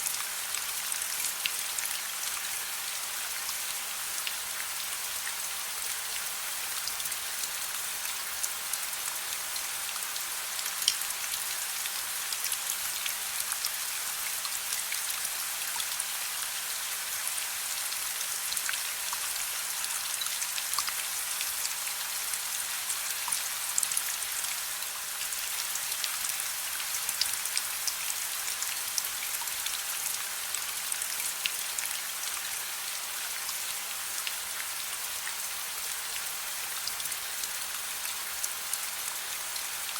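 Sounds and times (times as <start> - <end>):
soft rain hiss: 0.0 - 39.9.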